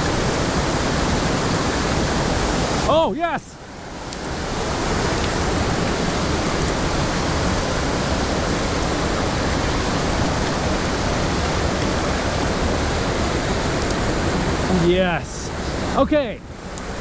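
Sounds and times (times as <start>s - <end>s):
mountain stream over rocks: 0.0s - 17.0s.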